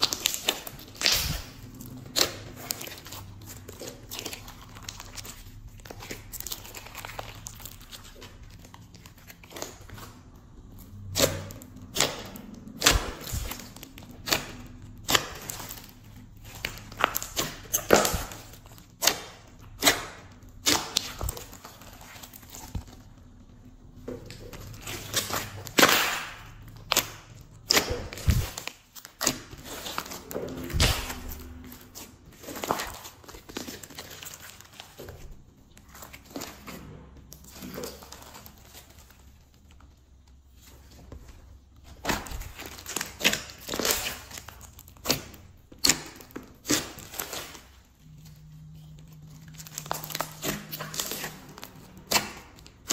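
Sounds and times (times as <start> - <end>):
slime squelching: 0.0 - 52.9.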